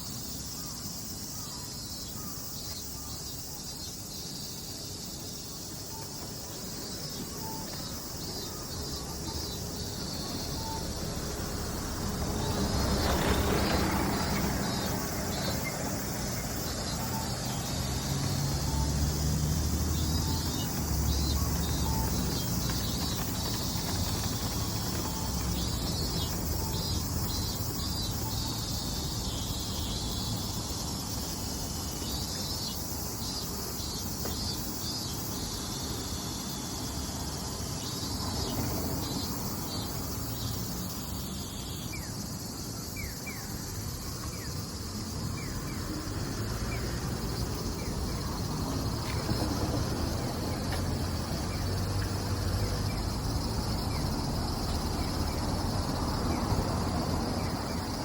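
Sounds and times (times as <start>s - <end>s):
cicadas pulsing calls: 0.0s - 58.0s.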